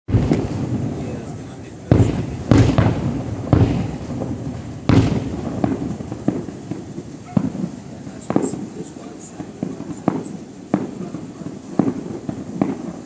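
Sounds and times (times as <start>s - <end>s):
distant fireworks booming: 0.1s - 13.0s
fireworks cracks: 0.1s - 13.0s.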